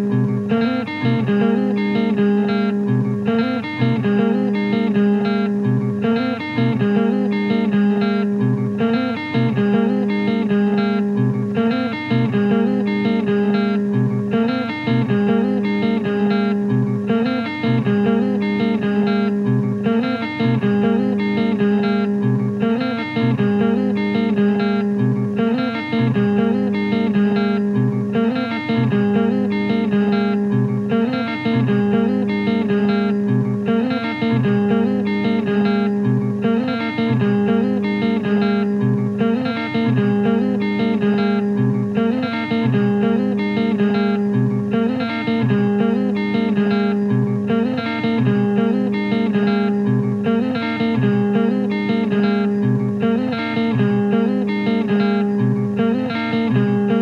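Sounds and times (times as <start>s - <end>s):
slow guitar music: 0.0s - 57.0s.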